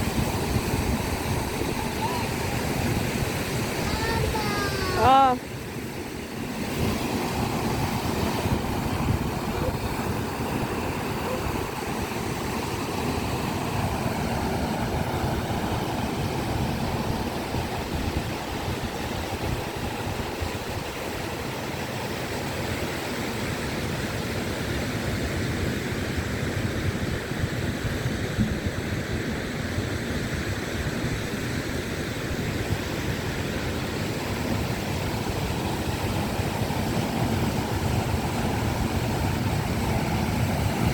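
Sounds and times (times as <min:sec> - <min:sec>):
surf washing onto shore: 0:00.0 - 0:40.9.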